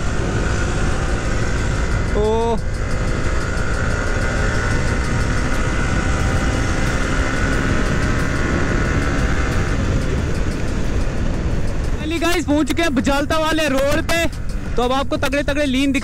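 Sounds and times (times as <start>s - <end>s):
motorcycle engine: 0.0s - 16.0s
wind rush: 0.0s - 16.0s.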